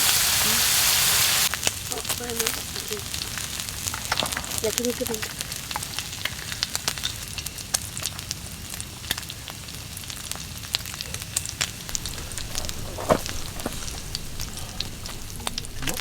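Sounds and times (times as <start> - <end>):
campfire crackling: 0.0 - 16.0
fire hiss: 0.0 - 16.0.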